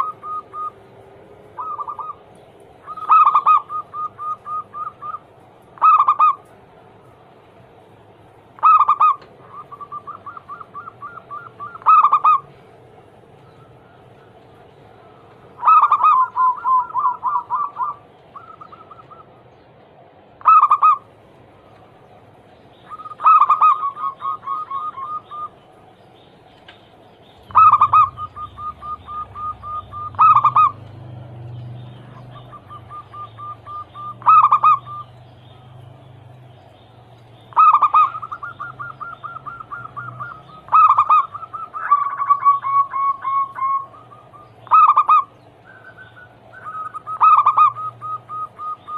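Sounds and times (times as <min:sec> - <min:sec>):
dove cooing: 0:00.0 - 0:06.5, 0:08.6 - 0:19.4, 0:20.4 - 0:21.2, 0:22.8 - 0:25.7, 0:27.3 - 0:35.2, 0:37.5 - 0:48.9.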